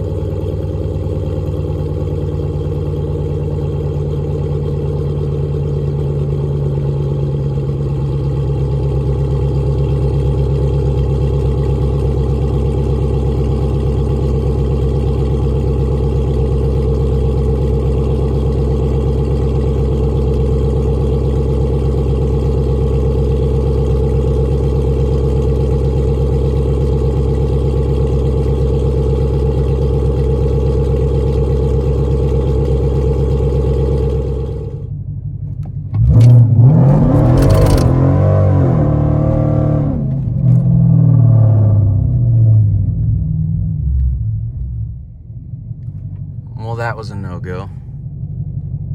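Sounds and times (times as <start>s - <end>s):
engine exhaust drone: 0.0s - 48.9s.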